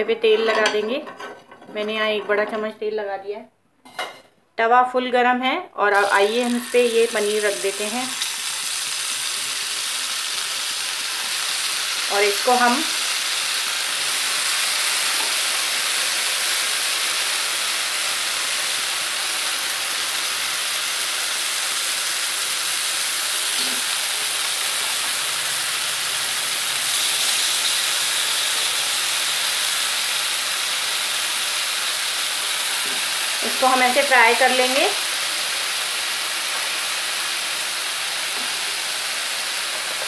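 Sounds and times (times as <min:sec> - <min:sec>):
paneer sizzling in oil: 0:05.9 - 0:40.0.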